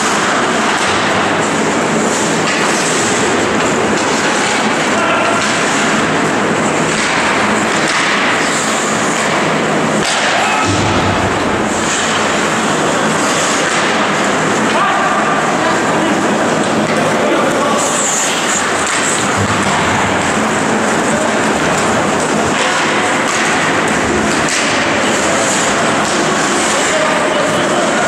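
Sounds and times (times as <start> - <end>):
loud steady rushing noise: 0.0 - 28.0
skates scraping ice: 0.0 - 28.0.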